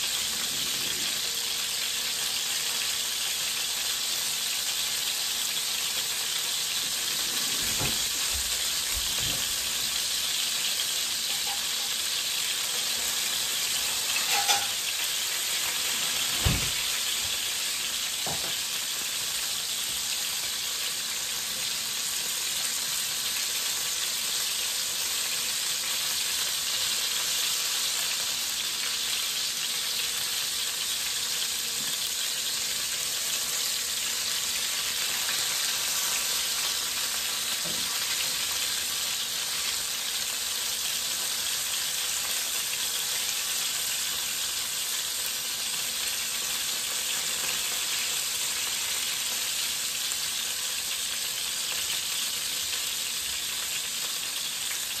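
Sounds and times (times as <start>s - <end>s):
fish sizzling in a pan: 0.0s - 55.0s.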